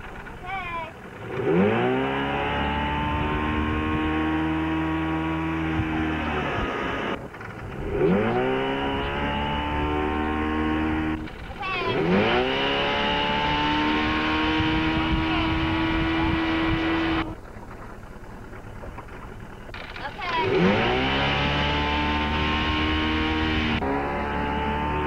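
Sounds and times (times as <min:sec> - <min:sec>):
boat engine revving up: 0:00.0 - 0:25.0.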